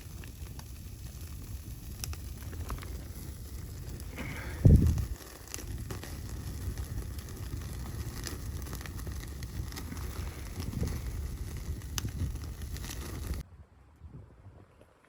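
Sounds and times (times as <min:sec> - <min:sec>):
wood fire crackling: 0:00.0 - 0:13.5.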